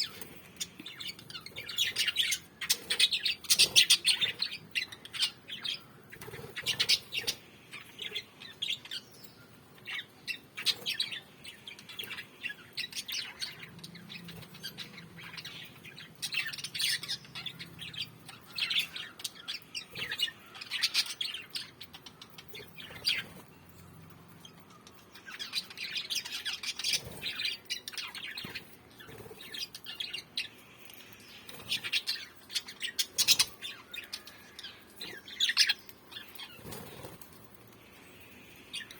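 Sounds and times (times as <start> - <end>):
parrots chirping: 0.0 - 9.2, 9.8 - 23.5, 24.5 - 37.3.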